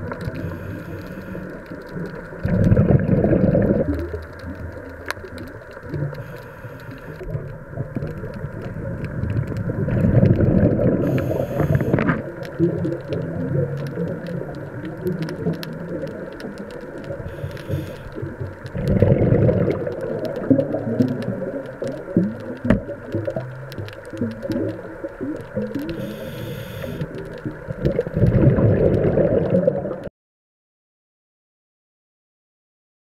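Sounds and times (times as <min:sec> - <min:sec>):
underwater exhaled bubbles: 0:00.0 - 0:30.1.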